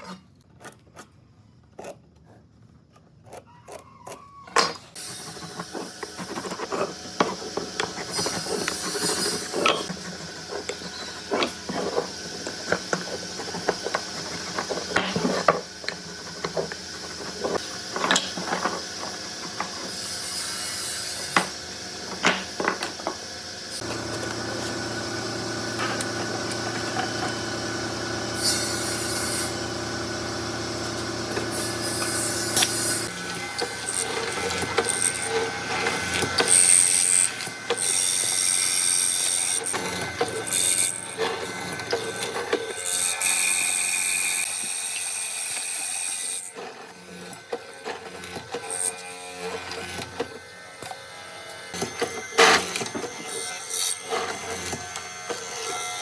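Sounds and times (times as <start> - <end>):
power tool whines and knocks: 4.6 - 56.0
power tool motor running: 5.0 - 56.0.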